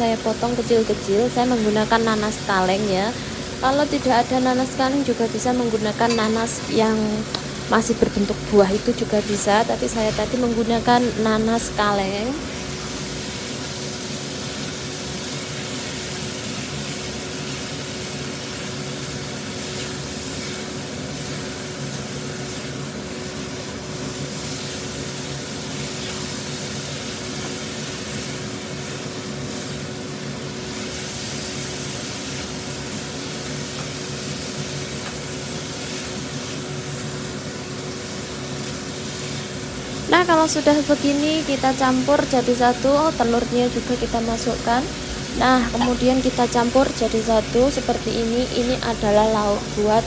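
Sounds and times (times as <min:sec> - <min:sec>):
steady hum: 0:00.0 - 0:14.2, 0:22.8 - 0:50.0
food sizzling in a frying pan: 0:00.0 - 0:50.0.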